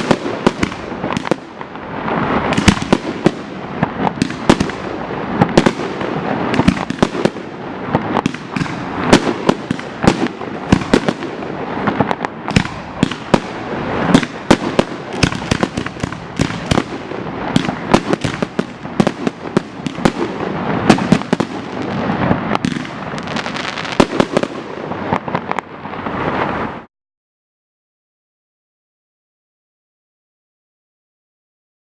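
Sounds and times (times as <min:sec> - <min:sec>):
firework bangs: 0:00.0 - 0:26.9
fireworks crackling: 0:00.0 - 0:26.9.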